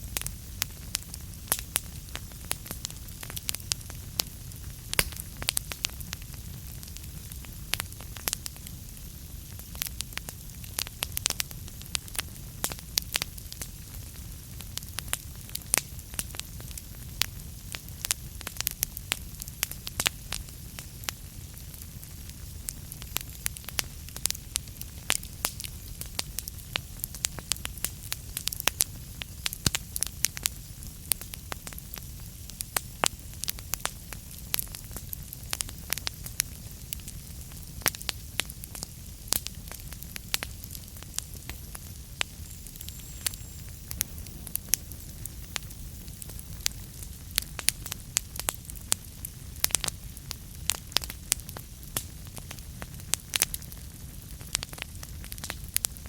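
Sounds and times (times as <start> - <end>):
low rumble of flames: 0.0 - 56.0
logs crackling and popping: 0.2 - 56.0.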